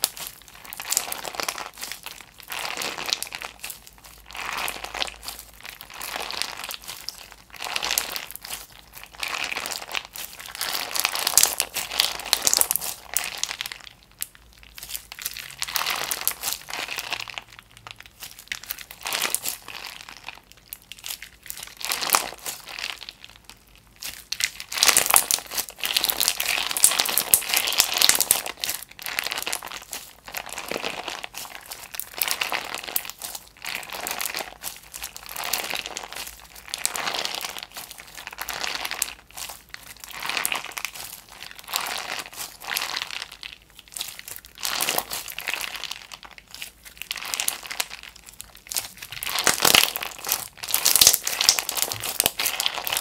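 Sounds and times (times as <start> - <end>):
slime clicking and popping: 0.0 - 53.0.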